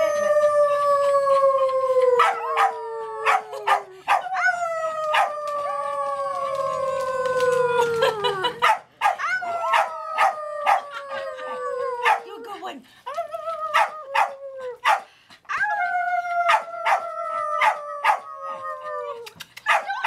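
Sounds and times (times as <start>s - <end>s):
woman howling: 0.0s - 8.6s, 9.2s - 14.8s, 15.5s - 19.3s
puppy howling: 0.0s - 12.7s, 15.5s - 19.3s.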